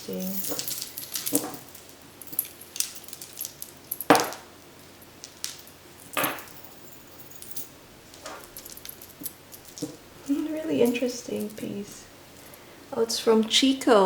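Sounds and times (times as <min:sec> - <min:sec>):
metal pieces clinking: 0:00.0 - 0:12.6.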